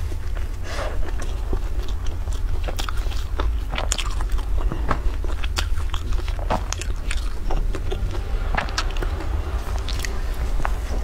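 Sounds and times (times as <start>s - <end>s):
chewing crusty bread: 0.0s - 11.0s
low hum: 0.0s - 11.0s.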